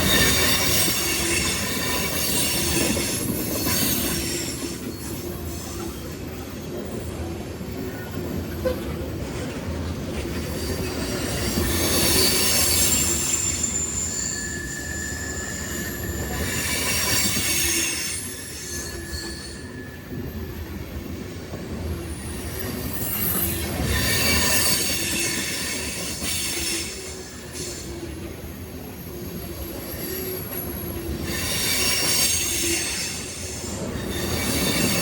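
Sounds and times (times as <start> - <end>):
freight train rumble: 0.0 - 35.0
train wheels squealing on rail: 0.0 - 35.0.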